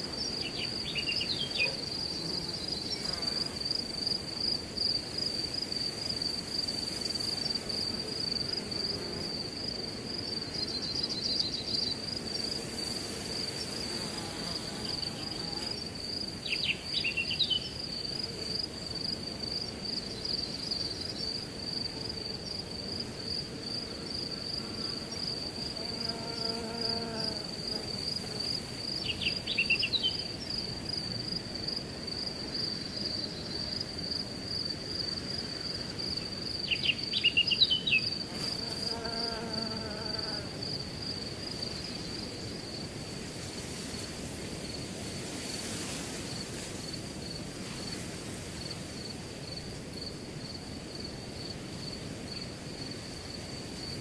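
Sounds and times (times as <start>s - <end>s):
wind through grass: 0.0s - 39.2s, 39.8s - 54.0s
crickets chirping: 0.0s - 54.0s.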